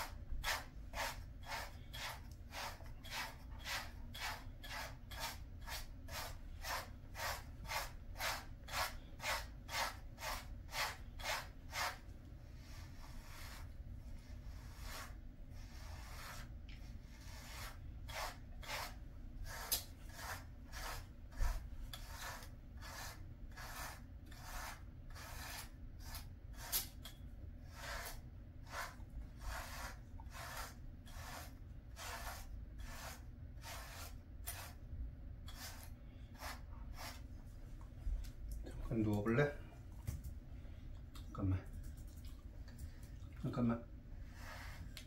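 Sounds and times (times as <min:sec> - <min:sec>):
brush stroking through dog fur: 0:00.0 - 0:26.8, 0:27.7 - 0:34.8, 0:35.5 - 0:37.6, 0:44.2 - 0:45.0.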